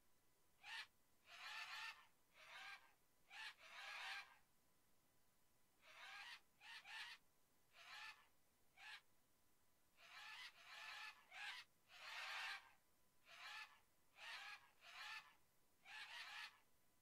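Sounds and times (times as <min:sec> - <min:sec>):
faint bird calls: 0:00.6 - 0:04.4, 0:05.8 - 0:09.1, 0:10.0 - 0:16.7.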